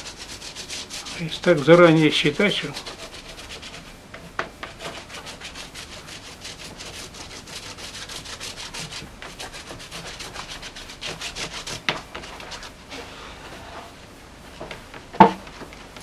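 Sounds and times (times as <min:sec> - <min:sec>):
rhythmic rubbing strokes by hand: 0:00.0 - 0:16.0.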